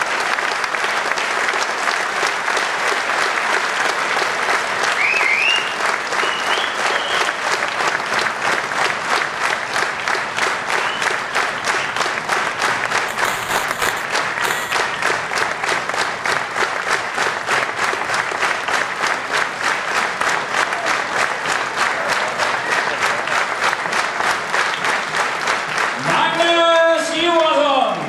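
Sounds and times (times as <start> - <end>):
audience applauding in rhythm: 0.0 - 26.8.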